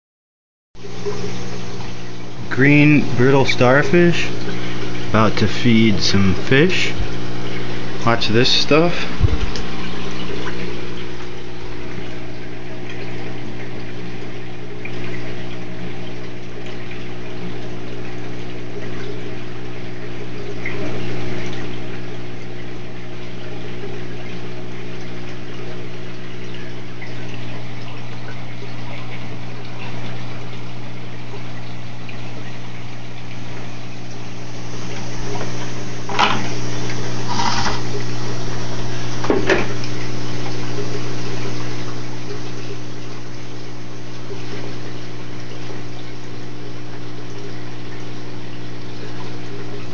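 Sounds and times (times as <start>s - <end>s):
electrical pump hum: 0.8s - 49.9s
water rushing and trickling: 0.8s - 49.9s.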